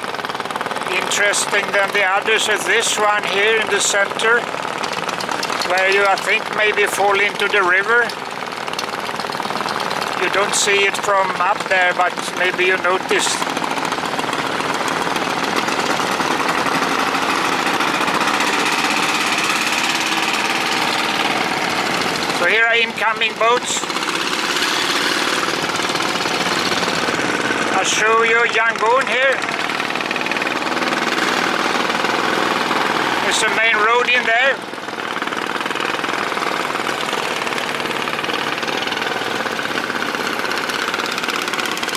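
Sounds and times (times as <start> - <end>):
small boat engine rattling: 0.0 - 41.9.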